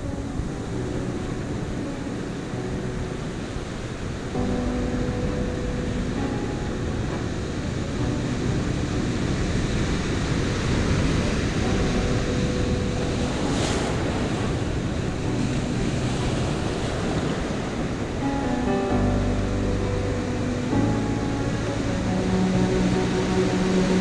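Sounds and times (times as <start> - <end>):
waves washing up a beach: 0.0 - 24.0
wind buffeting microphone: 0.0 - 24.0.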